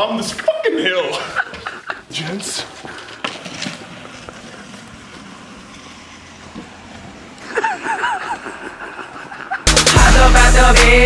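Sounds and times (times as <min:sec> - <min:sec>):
longboard wheels rolling on pavement: 0:00.0 - 0:09.7.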